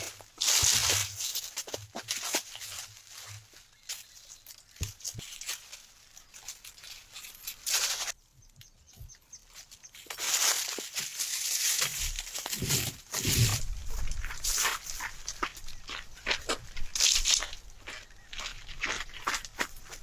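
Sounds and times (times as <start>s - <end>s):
leaves and twigs rustling: 0.0s - 20.0s.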